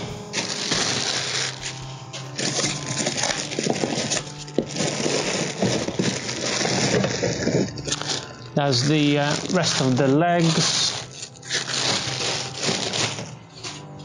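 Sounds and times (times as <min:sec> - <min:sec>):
plastic wrapping crinkling: 0:00.0 - 0:13.9.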